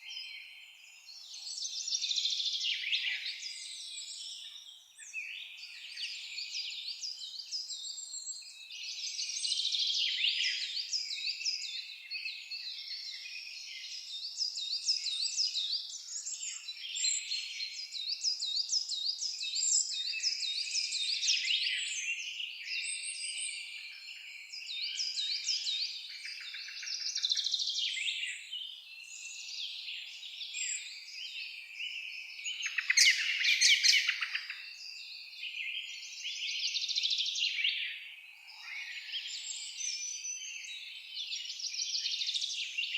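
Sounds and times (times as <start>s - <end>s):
songbirds chorus: 0.0s - 42.9s.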